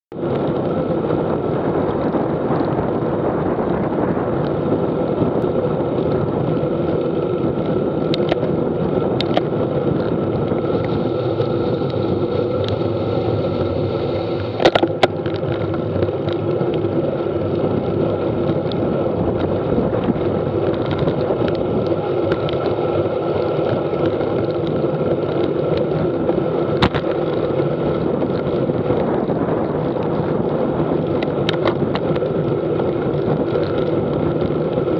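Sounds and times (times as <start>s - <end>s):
tyres on wet road: 0.1s - 34.9s
wind rushing over camera: 0.1s - 34.9s.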